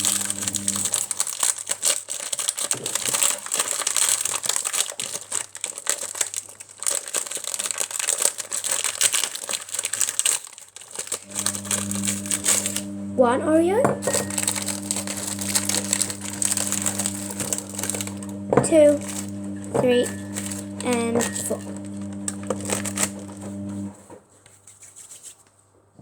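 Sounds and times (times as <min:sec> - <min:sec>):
plastic packet crinkling: 0:00.0 - 0:24.0.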